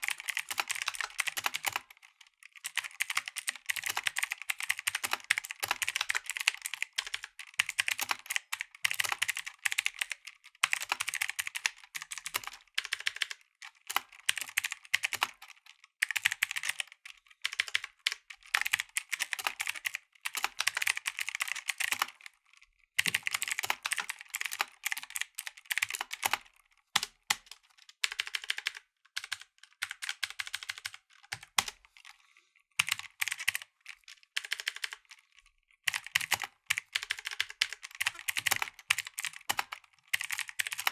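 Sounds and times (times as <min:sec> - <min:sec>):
mechanical keyboard typing: 0:00.0 - 0:32.2, 0:32.8 - 0:40.9.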